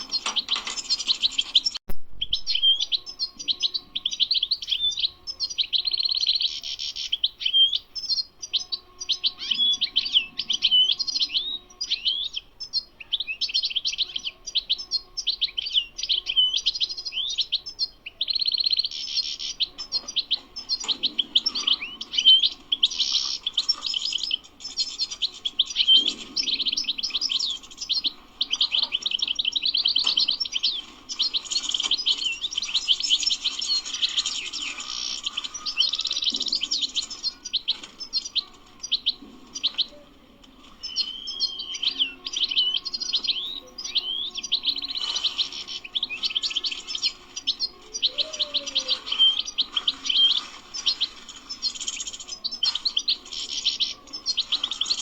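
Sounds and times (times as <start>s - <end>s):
goldfinch twittering song: 0.0s - 40.0s, 40.6s - 55.0s.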